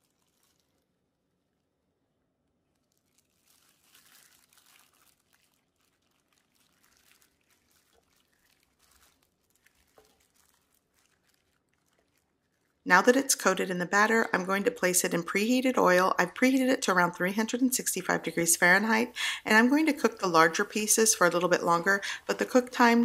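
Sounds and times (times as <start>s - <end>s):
wet batter squishing: 0.0s - 1.8s, 2.5s - 14.3s, 16.6s - 23.0s
plastic glove crinkling: 0.0s - 23.0s.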